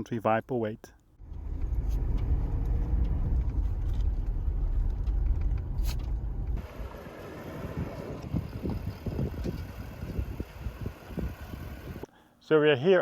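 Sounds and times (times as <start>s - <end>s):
vehicle engine and road rumble: 1.1s - 12.1s
quieter vehicle sound: 1.2s - 12.1s.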